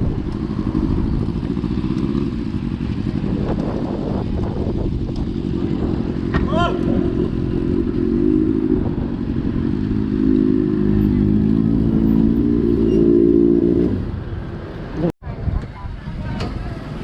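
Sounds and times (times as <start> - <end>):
vehicle engine droning: 0.0 - 15.1.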